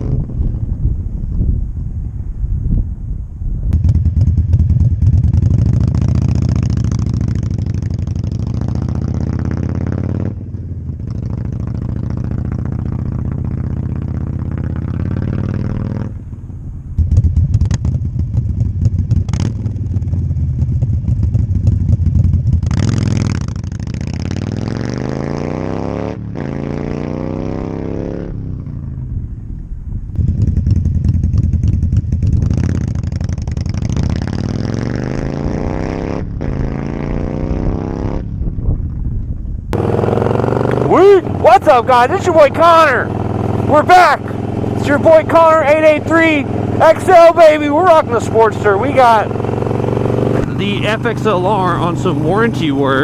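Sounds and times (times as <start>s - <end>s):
motorcycle engine revving: 0.0s - 0.8s, 3.7s - 29.3s, 30.2s - 53.0s.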